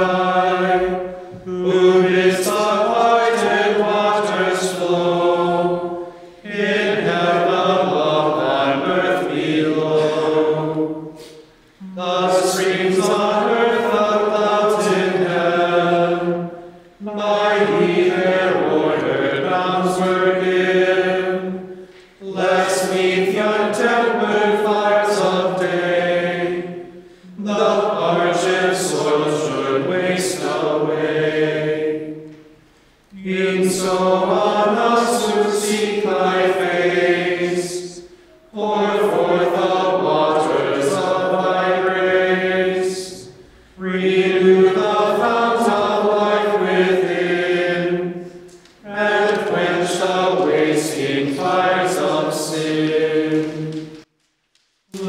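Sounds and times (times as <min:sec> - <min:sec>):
choir chanting: 0:00.0 - 0:54.1.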